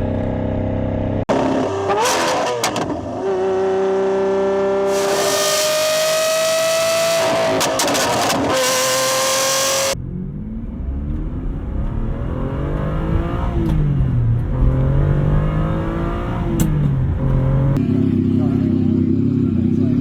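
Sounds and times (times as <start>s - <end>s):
car engine revving: 0.0s - 18.4s
car engine steady high note: 0.0s - 20.0s.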